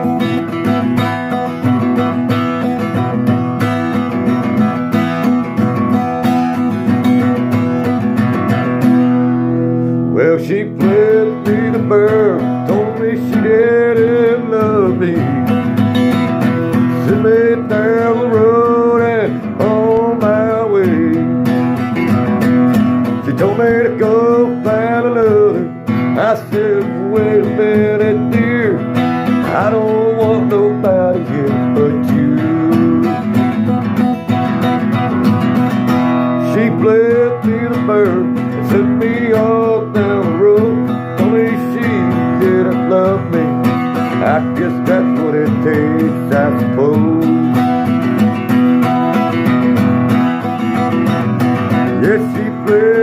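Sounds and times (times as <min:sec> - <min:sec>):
acoustic guitar chord strumming: 0:00.0 - 0:53.0
wavering guitar melody: 0:00.0 - 0:53.0.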